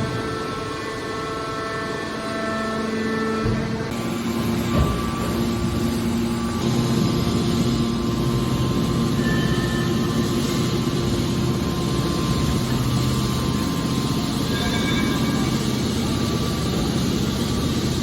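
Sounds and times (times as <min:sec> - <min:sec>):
baler machine hum: 0:00.0 - 0:18.0.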